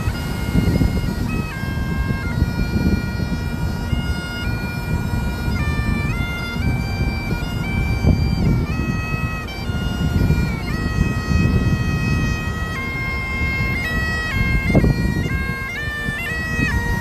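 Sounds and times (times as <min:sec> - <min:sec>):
bagpipes playing a melody: 0:00.0 - 0:17.0.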